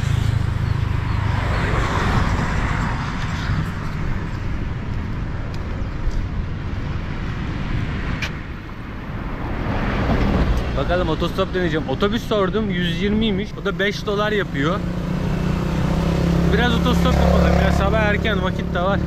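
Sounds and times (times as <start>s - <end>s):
vehicle passing: 0.0s - 5.8s, 6.4s - 19.0s
steady traffic noise: 0.0s - 19.0s.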